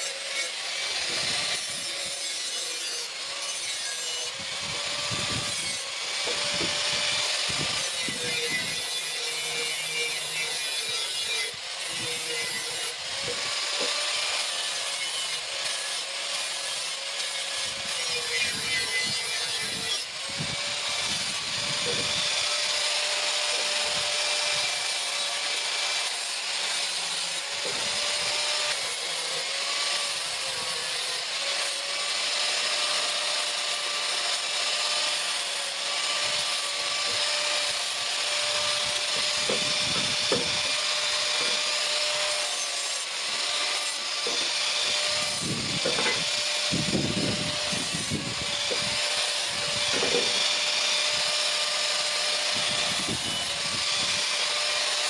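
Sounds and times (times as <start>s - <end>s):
power tool whining and grinding: 0.0s - 55.0s.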